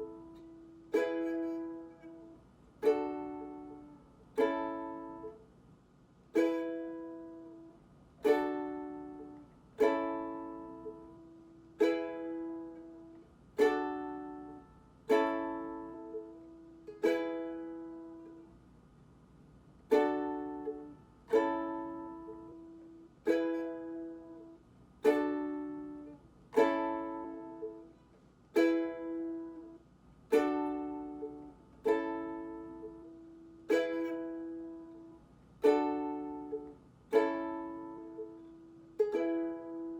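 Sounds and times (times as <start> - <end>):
ukulele chords strummed: 0.0 - 5.5, 6.3 - 18.6, 19.8 - 39.9.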